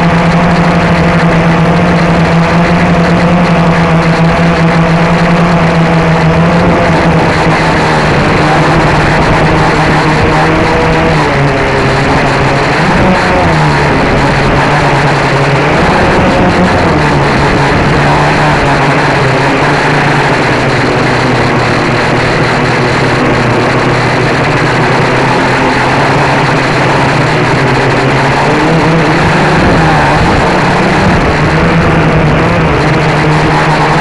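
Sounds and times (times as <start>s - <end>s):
quadcopter motors buzzing: 0.0s - 34.0s.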